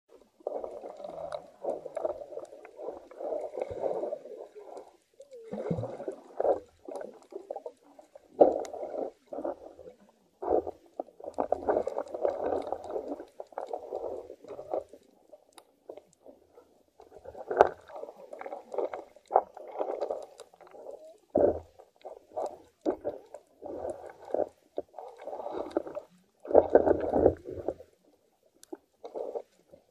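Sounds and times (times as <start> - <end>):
underwater water gurgling and rumbling: 0.1 - 29.9.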